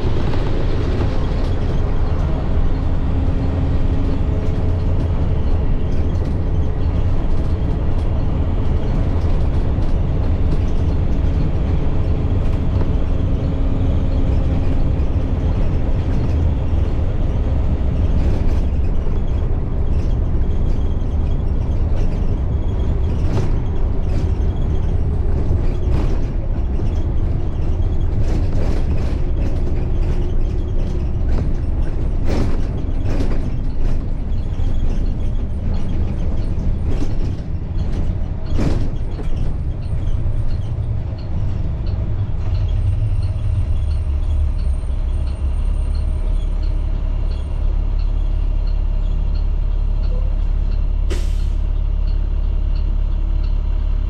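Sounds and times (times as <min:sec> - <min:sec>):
knocks and rattles over bumps: 0:00.0 - 0:48.7
bus diesel engine rumble: 0:00.0 - 0:54.0.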